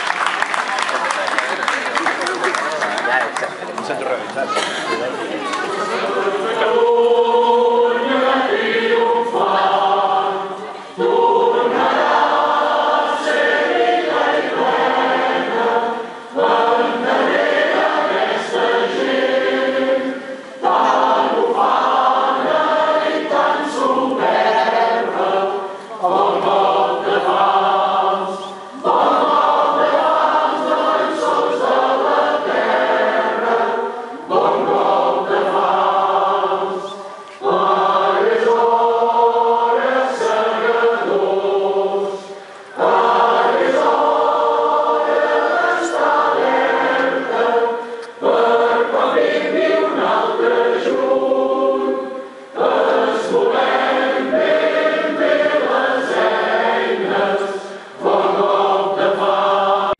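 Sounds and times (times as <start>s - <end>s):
choir singing: 5.2s - 59.9s.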